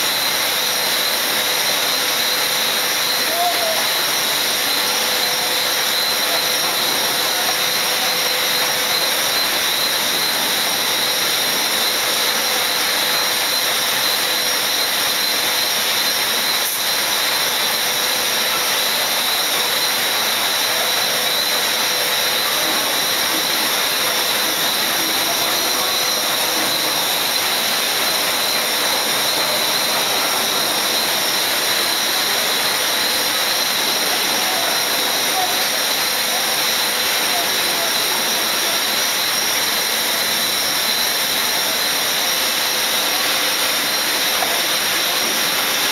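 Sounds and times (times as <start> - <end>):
machine rushing hiss: 0.0 - 45.9
steady high tones: 0.0 - 45.9.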